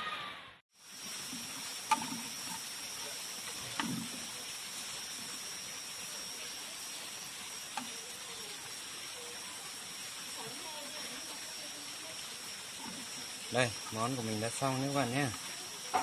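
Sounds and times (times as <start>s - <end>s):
crickets sizzling in a pan: 0.7s - 16.0s.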